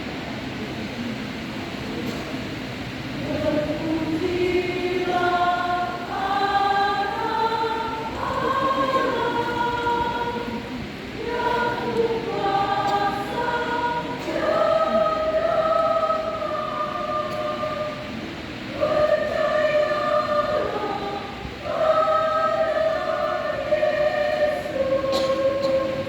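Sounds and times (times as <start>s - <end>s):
choir singing in harmony: 3.1s - 26.0s.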